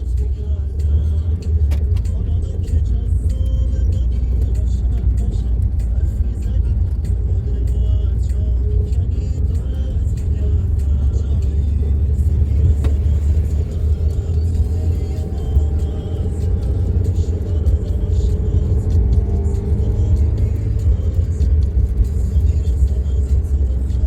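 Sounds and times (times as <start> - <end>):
loud low engine rumble: 0.0 - 24.0
music playing: 0.0 - 24.0.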